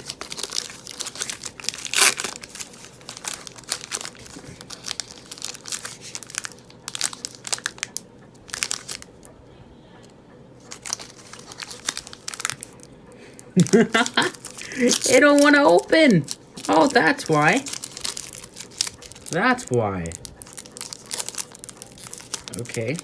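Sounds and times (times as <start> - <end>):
foil wrapper crinkling: 0.0 - 9.3, 10.6 - 23.0.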